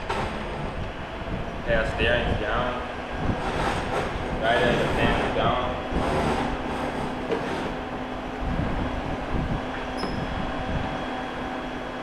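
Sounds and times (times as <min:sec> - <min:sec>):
radiator fan whirring: 0:00.0 - 0:12.0.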